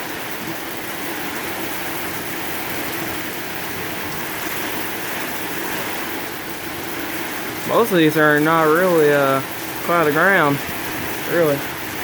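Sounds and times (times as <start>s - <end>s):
rain splashing on surfaces: 0.0s - 12.0s.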